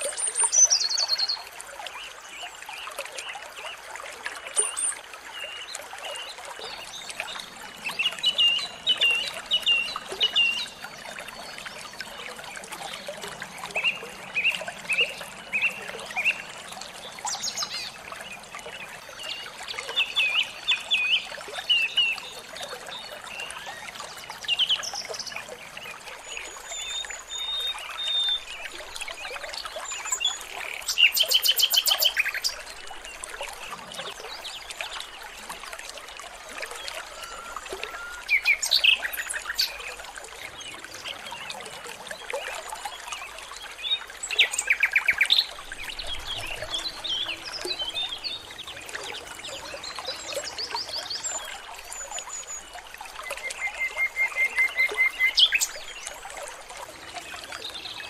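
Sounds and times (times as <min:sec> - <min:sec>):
running water trickling: 0:00.0 - 0:58.0
songbirds chirping: 0:00.0 - 0:58.0.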